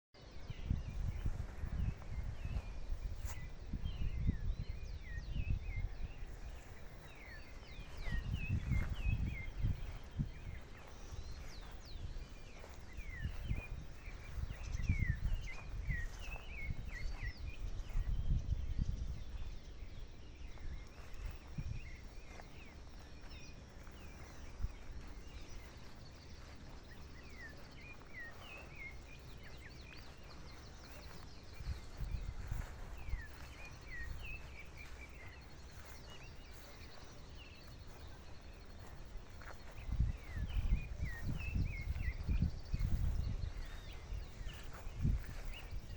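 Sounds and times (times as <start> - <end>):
small birds chirping: 0.2 - 45.9.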